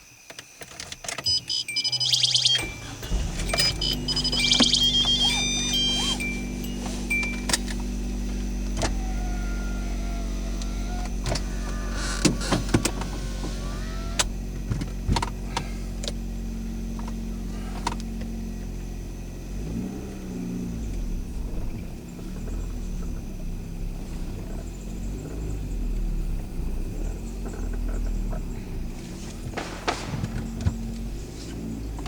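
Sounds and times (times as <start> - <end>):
car engine running: 1.2 - 32.0.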